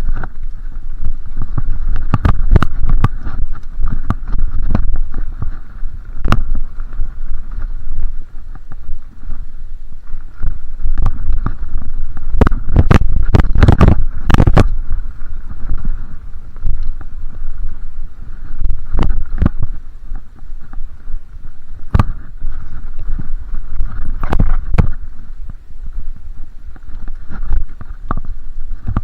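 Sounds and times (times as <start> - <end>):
bike clattering over bumps: 0.0 - 25.6
wind on microphone: 0.0 - 29.0.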